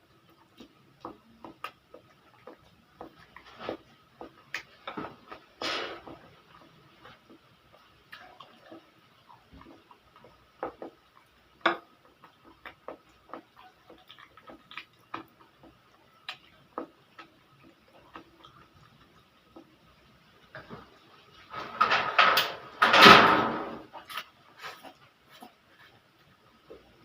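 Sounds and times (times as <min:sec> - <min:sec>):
person chewing noodles: 0:00.2 - 0:20.0, 0:24.0 - 0:26.0.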